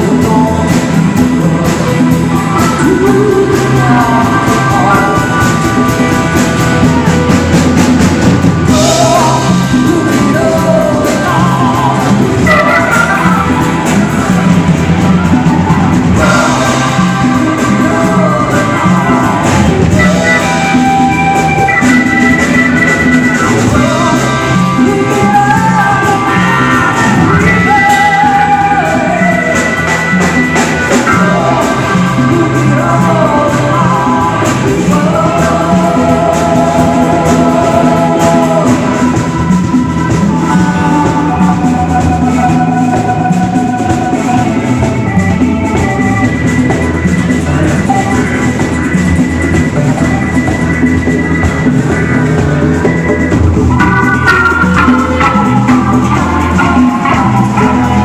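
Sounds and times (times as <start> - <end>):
lead singer singing: 0.0 - 58.0
live band playing: 0.0 - 58.0.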